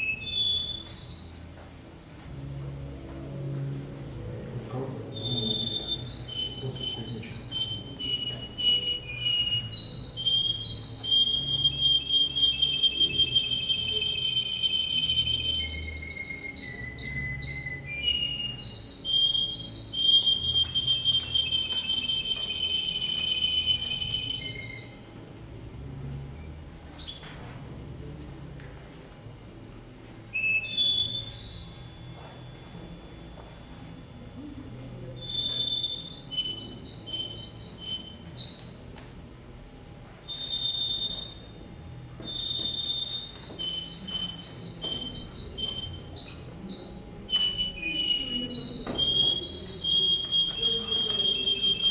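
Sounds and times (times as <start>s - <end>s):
canary singing trills: 0.0s - 25.3s, 26.4s - 39.1s, 40.2s - 51.9s.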